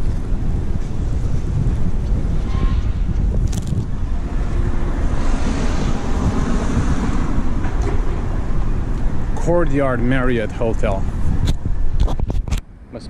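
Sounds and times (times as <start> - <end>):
wind buffeting microphone: 0.0 - 12.7
street traffic noise: 0.0 - 13.0.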